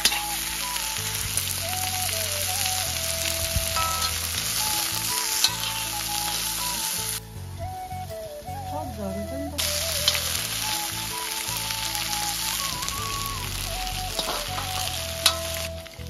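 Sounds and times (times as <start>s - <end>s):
food frying with sizzle and pops: 0.0s - 8.7s, 9.6s - 16.0s
background music with melody and bass: 0.0s - 16.0s.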